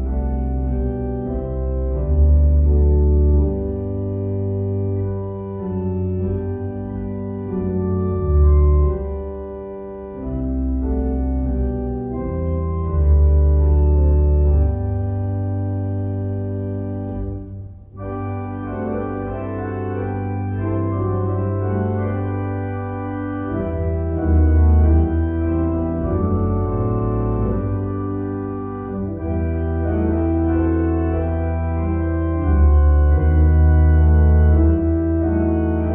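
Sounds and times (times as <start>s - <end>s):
organ music chords: 0.0s - 35.9s.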